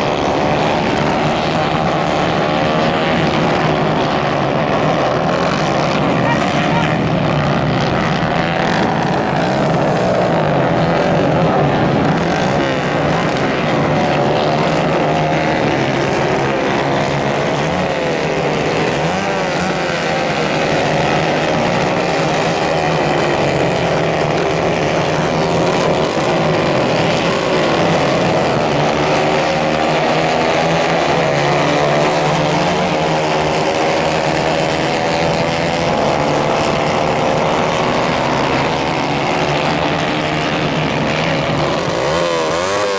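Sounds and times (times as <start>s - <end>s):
kart engines racing: 0.0s - 42.9s.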